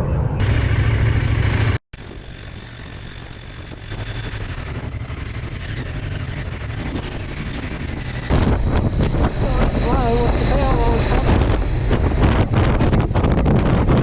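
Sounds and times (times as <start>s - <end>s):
aircraft engine drone: 0.0s - 14.0s.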